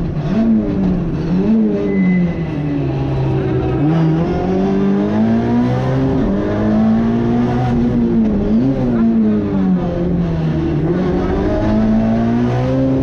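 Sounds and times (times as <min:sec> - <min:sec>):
rally car engine pulling hard: 0:00.0 - 0:13.0.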